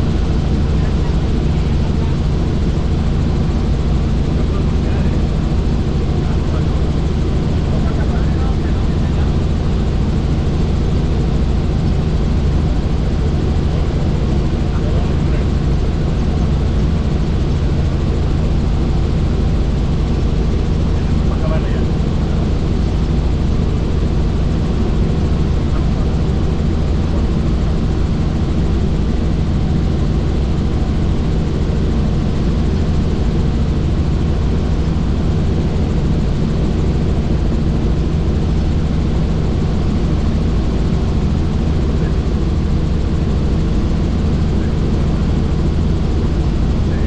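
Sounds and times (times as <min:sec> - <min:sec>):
helicopter rotor drone: 0:00.0 - 0:47.0.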